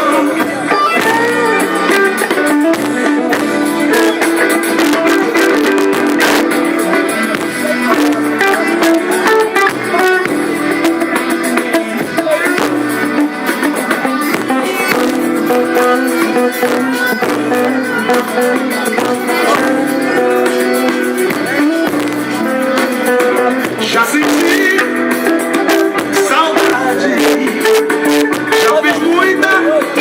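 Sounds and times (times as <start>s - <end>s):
lead guitar solo: 0.0s - 30.0s
live band playing: 0.0s - 30.0s.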